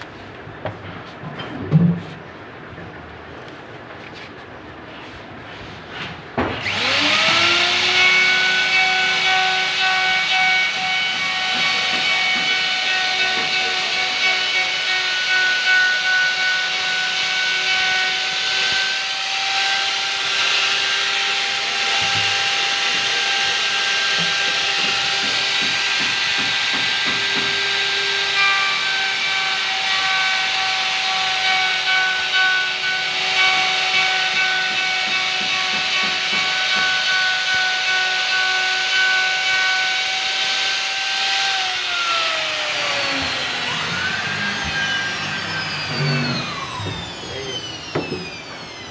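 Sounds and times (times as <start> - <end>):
wood router cutting wood: 6.4 - 48.9.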